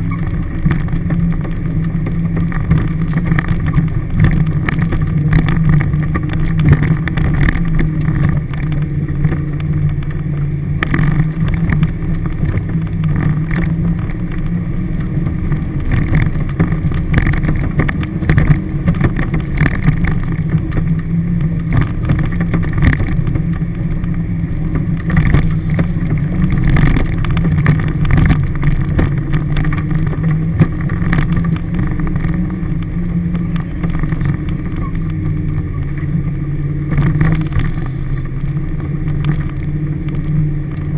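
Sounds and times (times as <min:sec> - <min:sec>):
car engine droning in cabin: 0:00.0 - 0:40.9
vehicle knocks and rattles: 0:00.0 - 0:40.9.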